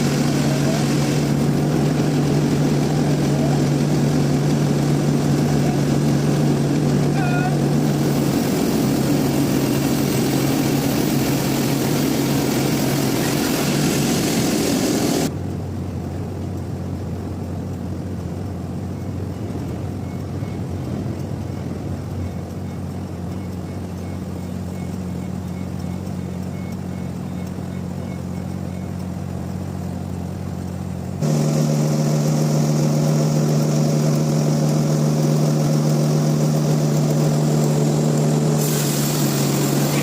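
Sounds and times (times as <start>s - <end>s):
sawmill machinery droning: 0.0s - 15.3s, 19.3s - 40.0s
low machine hum: 0.0s - 40.0s.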